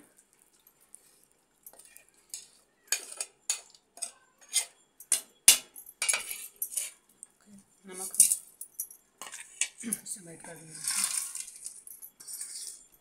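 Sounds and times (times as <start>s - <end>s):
metal spoon scraping and clinking: 1.7s - 7.0s, 7.9s - 13.0s.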